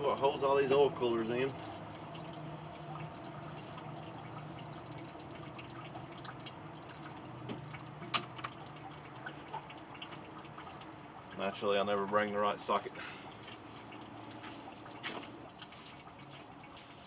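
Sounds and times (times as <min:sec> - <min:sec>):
liquid dripping into a pan: 0:00.0 - 0:17.0.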